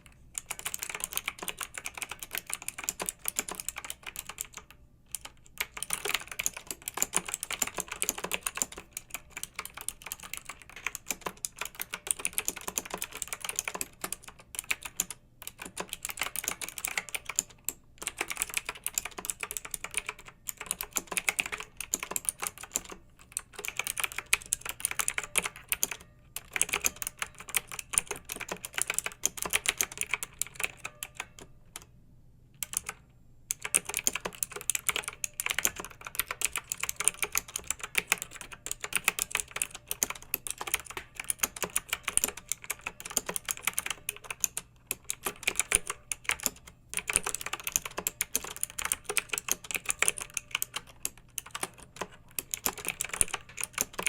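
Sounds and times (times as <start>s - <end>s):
mechanical keyboard typing: 0.0s - 31.9s, 32.6s - 54.0s.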